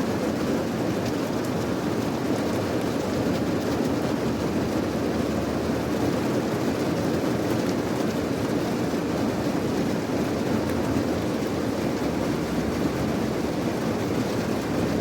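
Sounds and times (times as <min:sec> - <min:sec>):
steady rain rushing: 0:00.0 - 0:15.0.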